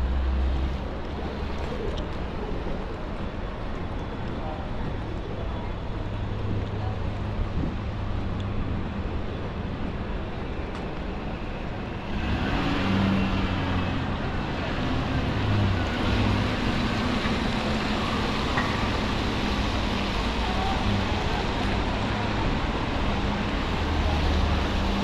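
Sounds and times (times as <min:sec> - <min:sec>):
vehicle engines running: 0:00.0 - 0:25.0.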